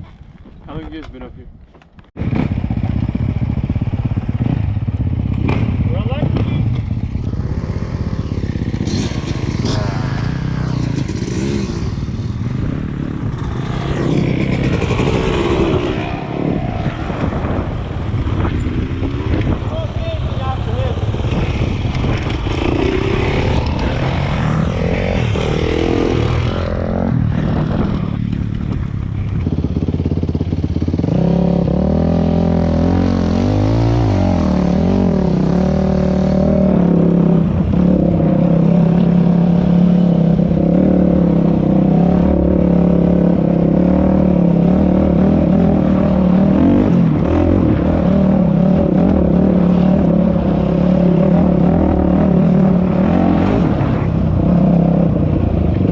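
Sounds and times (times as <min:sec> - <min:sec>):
dirt bike engine running: 0:02.2 - 0:55.9.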